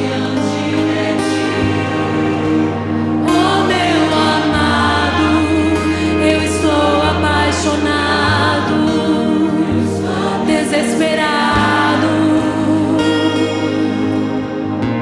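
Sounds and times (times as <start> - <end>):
voices singing held notes: 0.0 - 14.9
worship band playing: 0.0 - 15.0.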